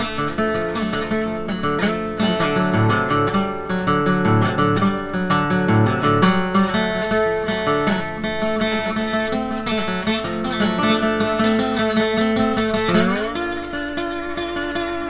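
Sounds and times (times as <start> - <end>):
slide guitar strumming: 0.0 - 15.0.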